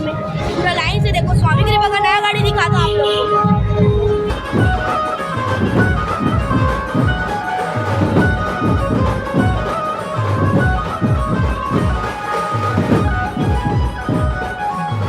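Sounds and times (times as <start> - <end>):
heavy repeating drumbeats: 0.0 - 14.7
band playing over sound system: 0.0 - 15.0
sustained melody line: 0.0 - 15.0.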